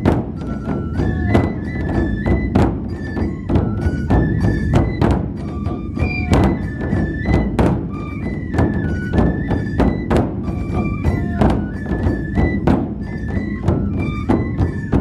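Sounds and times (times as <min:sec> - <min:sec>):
high flute melody: 0:00.0 - 0:15.0
large drums beaten: 0:00.0 - 0:15.0.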